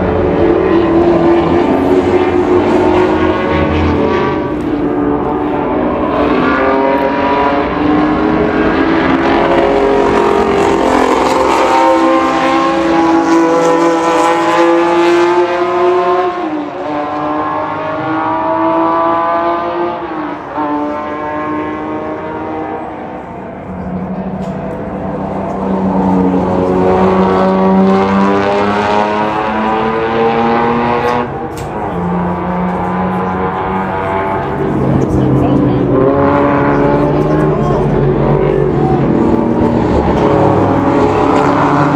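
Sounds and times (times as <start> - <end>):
racing car engines accelerating: 0.0 - 41.9.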